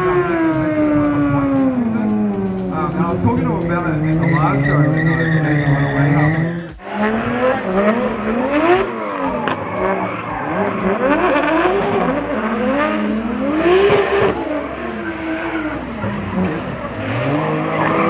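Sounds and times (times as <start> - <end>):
car engines revving: 0.0 - 18.0
tyres skidding on tarmac: 0.0 - 18.0.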